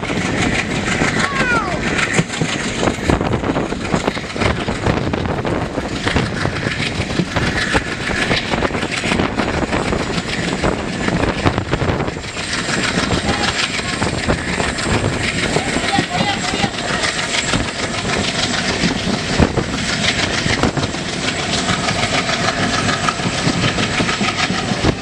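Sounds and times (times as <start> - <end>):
train coaches rumbling and rattling: 0.0 - 25.0
wheels clattering on rails: 0.0 - 25.0.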